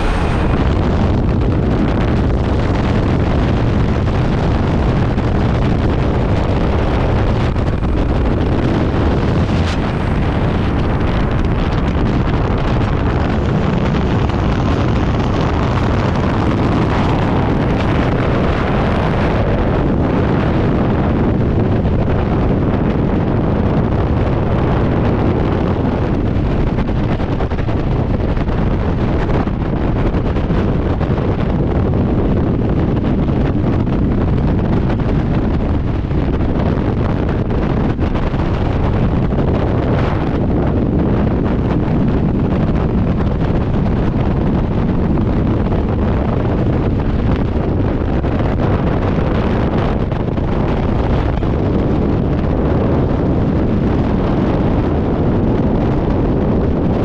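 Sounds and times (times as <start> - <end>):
wind roaring over microphone: 0.0 - 57.0.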